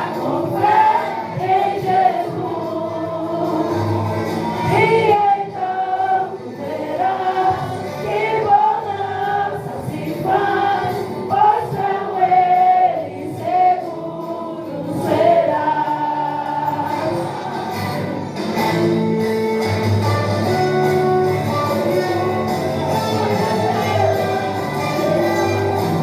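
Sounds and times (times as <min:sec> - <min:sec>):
choir singing gospel: 0:00.0 - 0:19.3, 0:20.3 - 0:26.0
instrumental backing with bass: 0:00.0 - 0:26.0.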